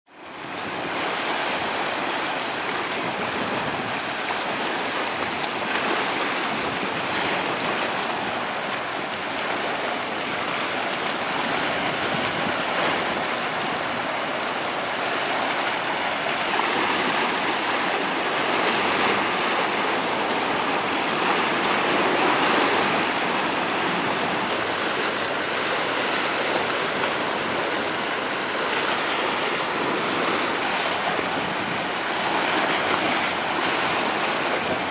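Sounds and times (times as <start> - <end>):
waves washing against shore: 0.1 - 34.9.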